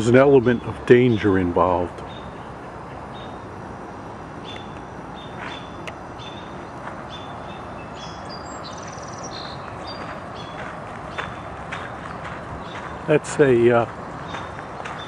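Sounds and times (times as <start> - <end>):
birds chirping: 0.0 - 15.0
distant traffic hiss: 0.0 - 15.0.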